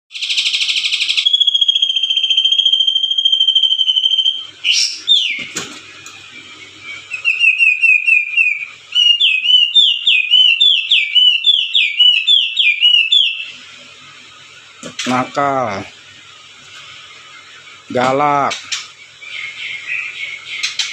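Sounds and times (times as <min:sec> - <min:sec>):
bird calling: 0:00.1 - 0:13.8, 0:14.4 - 0:20.9.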